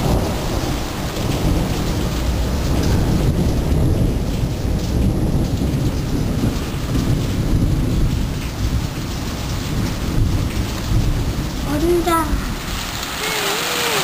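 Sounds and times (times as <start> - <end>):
hail on wooden deck and gravel: 0.0 - 14.0
thunder rumbling: 0.0 - 14.0.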